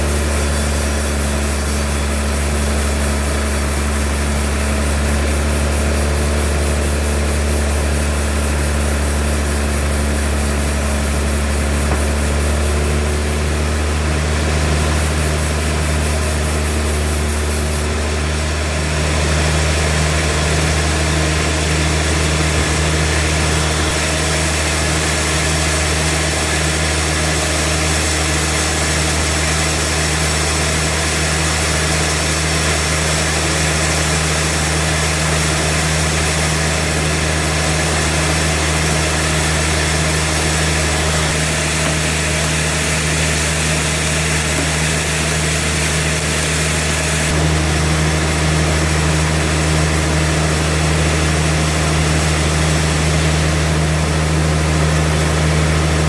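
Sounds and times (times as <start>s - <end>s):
sawmill machine humming: 0.0s - 56.0s.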